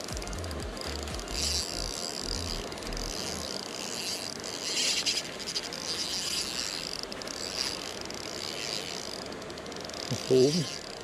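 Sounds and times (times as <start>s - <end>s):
spinning reel whirring: 0.0s - 11.0s.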